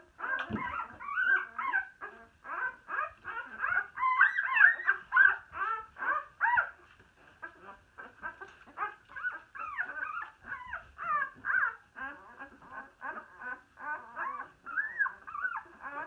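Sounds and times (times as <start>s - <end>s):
puppies whimpering and squeaking: 0.1s - 16.0s.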